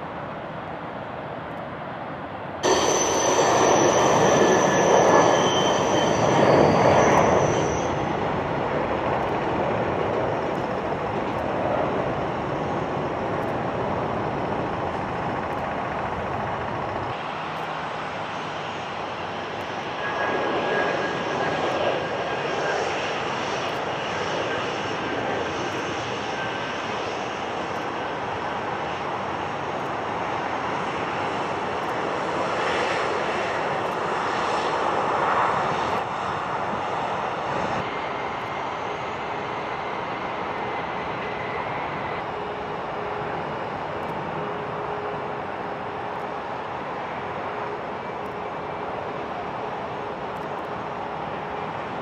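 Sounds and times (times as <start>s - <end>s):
jet engine rush: 0.0s - 52.0s
thin high engine whine: 2.6s - 52.0s.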